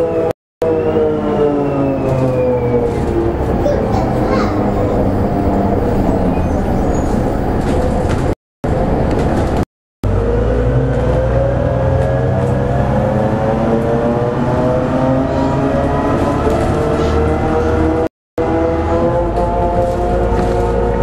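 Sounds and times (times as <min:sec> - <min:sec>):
bus engine rumble: 0:01.9 - 0:21.0.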